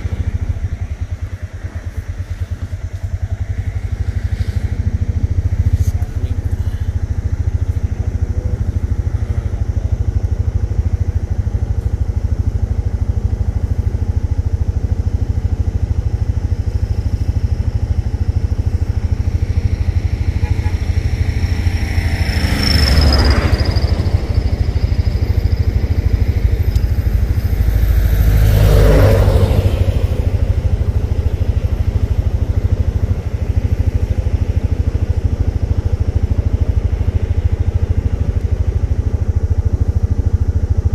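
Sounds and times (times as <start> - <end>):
auto-rickshaw engine droning: 0.0 - 40.9
passing traffic: 0.0 - 40.9.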